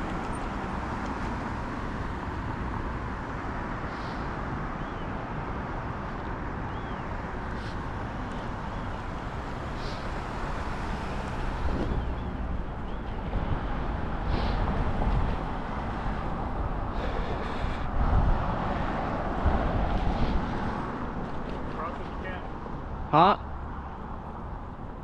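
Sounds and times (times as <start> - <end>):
wind rumble on microphone: 0.0 - 21.8.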